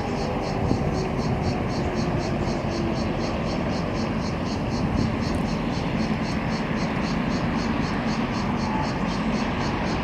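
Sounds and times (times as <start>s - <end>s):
low rumble of ship and harbour: 0.0s - 10.0s.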